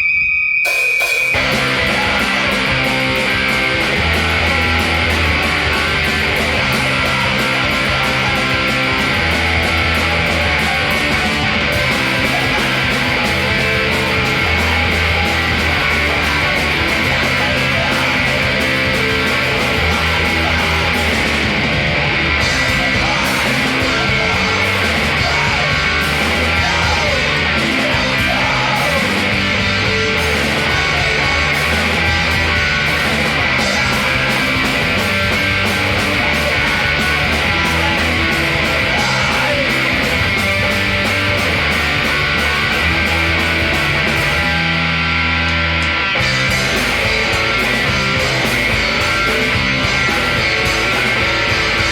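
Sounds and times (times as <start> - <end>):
rock band playing: 0.0 - 51.9.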